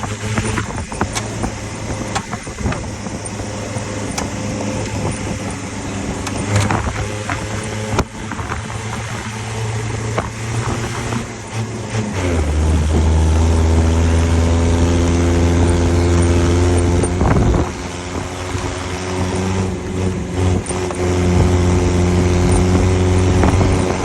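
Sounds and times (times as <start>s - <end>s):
car engine running: 0.0s - 24.0s
sharp clicks and knocks: 0.0s - 24.0s.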